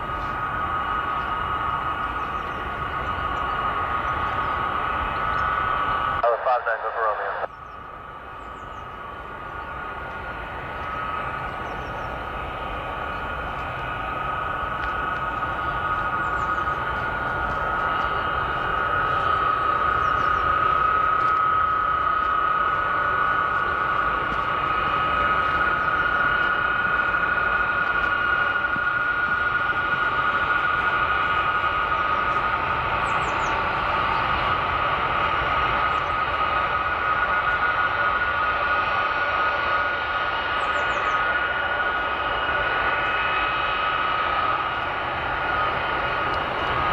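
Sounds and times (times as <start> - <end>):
broad rushing noise: 0.0 - 46.9
jet engines whining: 0.0 - 46.9
low rumble: 0.0 - 46.9.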